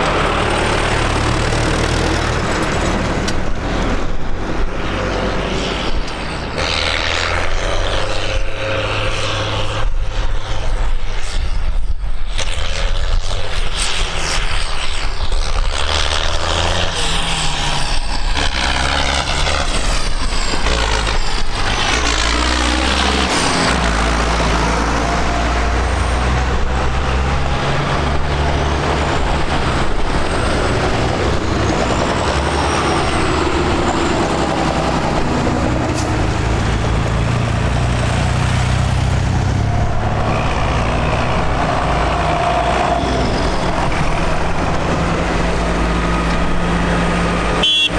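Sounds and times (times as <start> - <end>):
tractor engines driving past: 0.0 - 11.3, 12.3 - 47.9.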